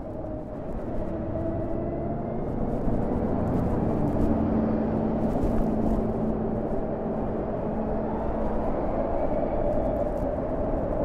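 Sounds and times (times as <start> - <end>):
wind and road rush: 0.0 - 11.0.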